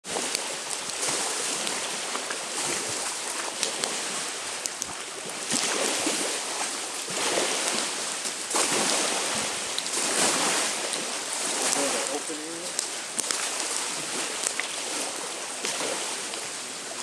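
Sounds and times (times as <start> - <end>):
campfire crackling: 0.0 - 17.0
waves washing onto shore: 0.0 - 17.0.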